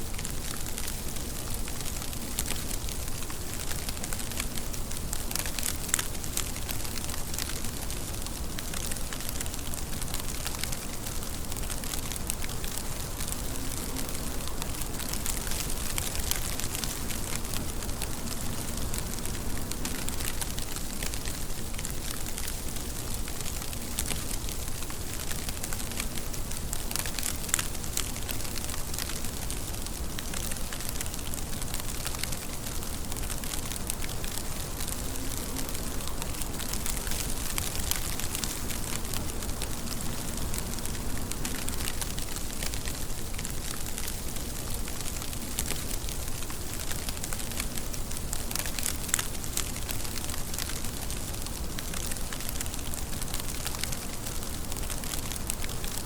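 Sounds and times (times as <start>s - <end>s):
rain hissing: 0.0s - 56.0s
raindrops clicking on surface: 0.0s - 56.0s.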